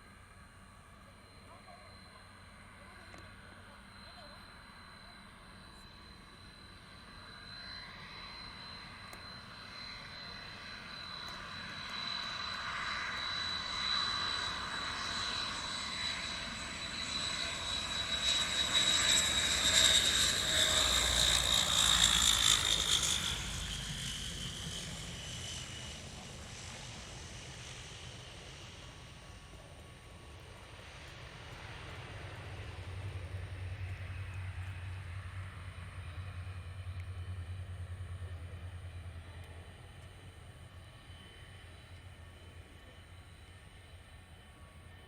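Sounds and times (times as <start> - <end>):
turboprop aircraft flying past: 0.0 - 45.0.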